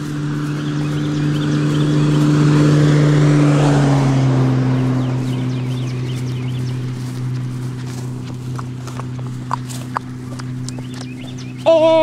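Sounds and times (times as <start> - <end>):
vehicle driving past: 0.0 - 11.7.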